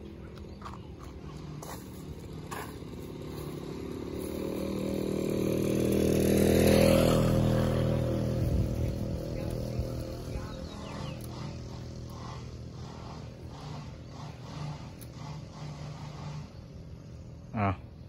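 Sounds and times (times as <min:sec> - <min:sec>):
vehicle driving past: 0:00.0 - 0:18.0.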